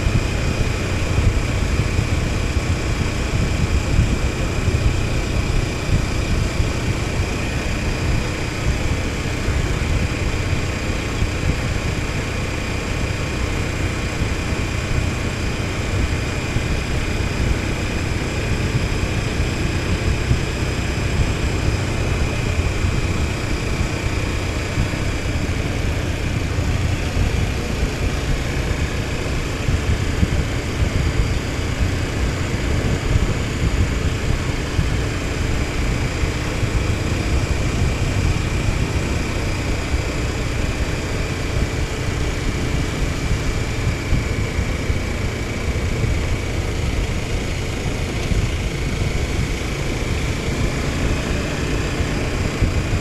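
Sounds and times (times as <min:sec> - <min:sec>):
motorcycle engine rumbling: 0:00.0 - 0:53.0.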